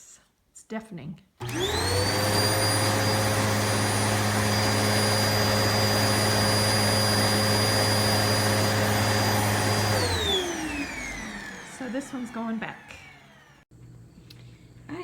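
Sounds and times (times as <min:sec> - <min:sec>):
vacuum cleaner running: 0:01.4 - 0:13.7.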